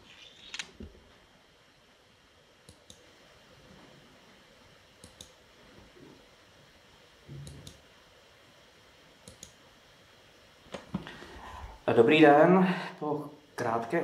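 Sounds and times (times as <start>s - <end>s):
faint room noise: 0.0s - 14.0s.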